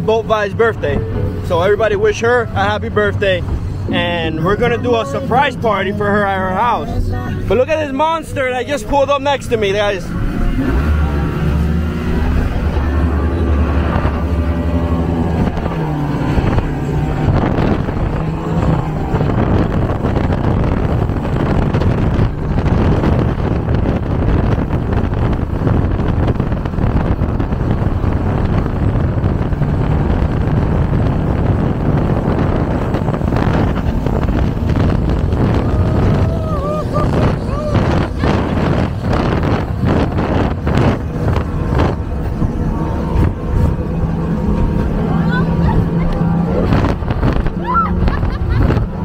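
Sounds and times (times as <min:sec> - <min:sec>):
powerboat engines rumbling: 0:00.0 - 0:49.0
wind buffeting microphone: 0:00.0 - 0:49.0.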